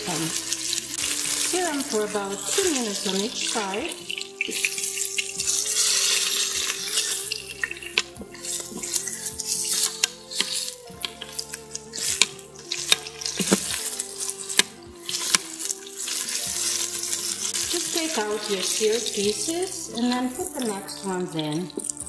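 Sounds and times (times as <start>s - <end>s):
meat sizzling in hot oil: 0.0s - 22.0s
tongs clicking and scraping pot: 0.0s - 22.0s.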